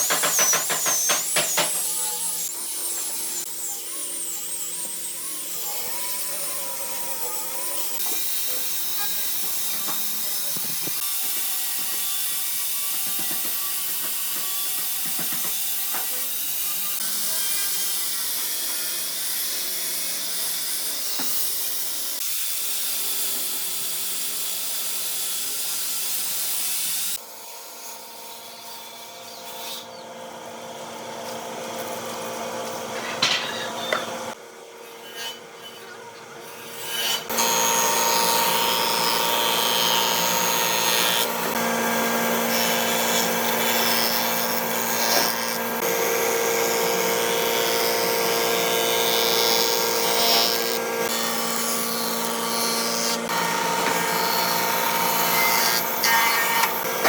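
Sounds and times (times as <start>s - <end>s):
power tools working wood: 0.0s - 27.2s, 28.1s - 34.4s, 36.5s - 57.0s.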